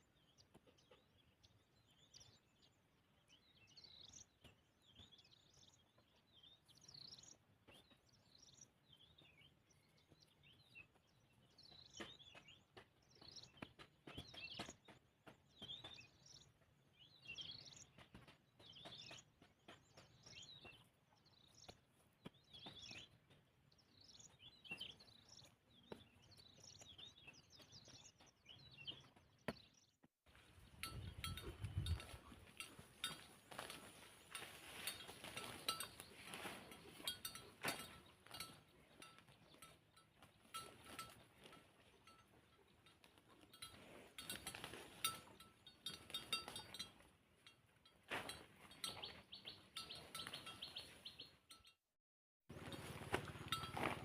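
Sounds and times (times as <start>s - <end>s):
small birds chirping: 0.0s - 51.8s.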